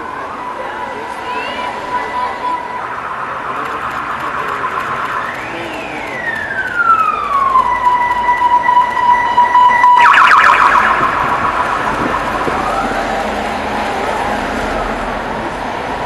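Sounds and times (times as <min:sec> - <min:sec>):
passing vehicles: 0:00.0 - 0:16.0
siren wailing and yelping: 0:00.5 - 0:13.6.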